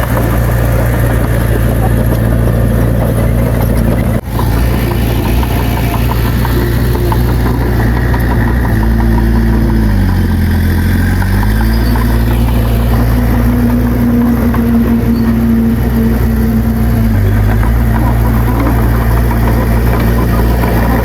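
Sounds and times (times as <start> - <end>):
diesel engine of heavy machinery: 0.0 - 21.0.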